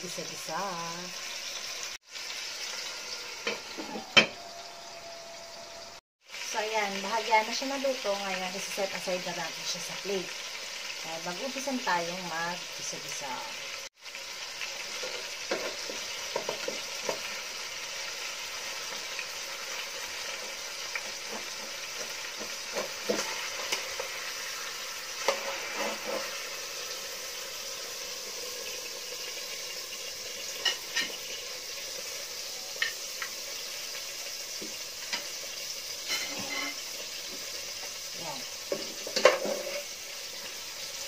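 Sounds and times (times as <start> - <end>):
chicken sizzling in oil: 0.0 - 41.0.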